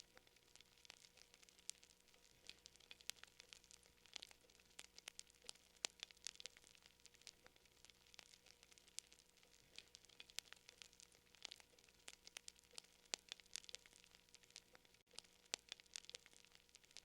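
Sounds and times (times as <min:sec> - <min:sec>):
faint steady hum: 0:00.0 - 0:17.0
wood fire crackling: 0:00.0 - 0:17.0.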